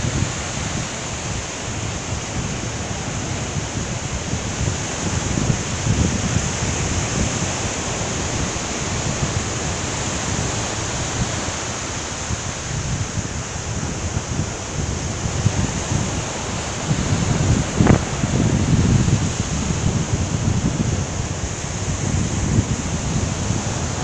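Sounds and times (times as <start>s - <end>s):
small waves washing up beach: 0.0s - 24.0s
wind rumble on microphone: 0.0s - 24.0s.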